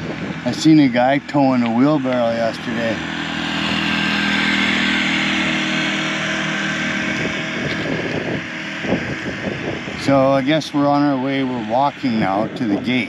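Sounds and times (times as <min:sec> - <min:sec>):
small motorcycle engine passing: 0:00.0 - 0:13.0.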